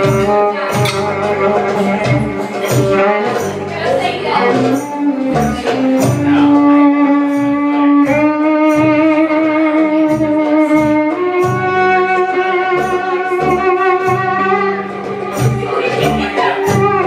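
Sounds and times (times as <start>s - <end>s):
low drum beat: 0.0s - 17.0s
plucked strings: 0.0s - 17.0s
violin long notes with vibrato: 0.0s - 17.0s.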